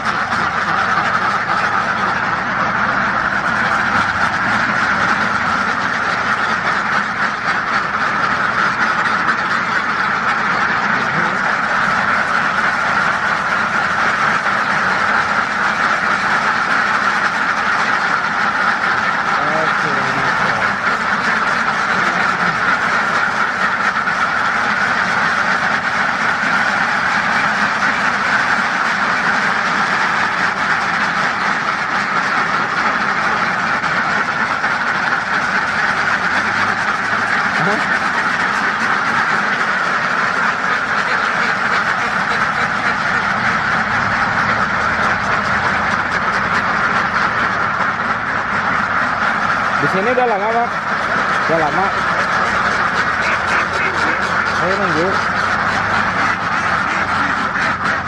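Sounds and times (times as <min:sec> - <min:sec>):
flock of ducks quacking: 0:00.0 - 0:58.0.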